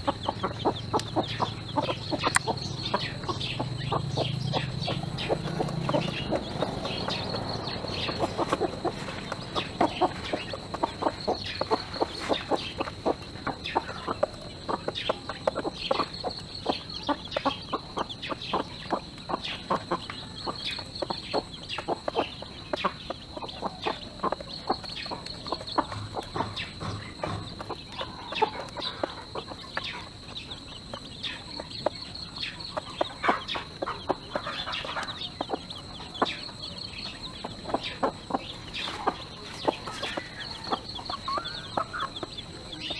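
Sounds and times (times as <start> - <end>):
beaks tapping on tray: 0.0 - 42.9
hen clucking: 0.0 - 42.9.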